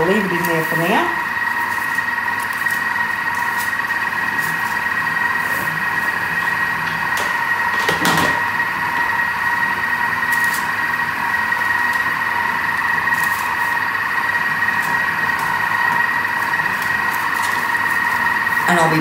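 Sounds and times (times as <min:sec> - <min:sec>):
kitchen appliance motor humming: 0:00.0 - 0:19.0.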